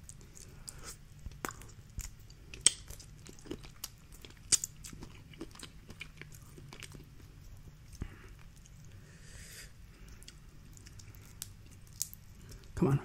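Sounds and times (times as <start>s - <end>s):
chewing shrimp: 0.0s - 9.1s, 9.8s - 12.8s.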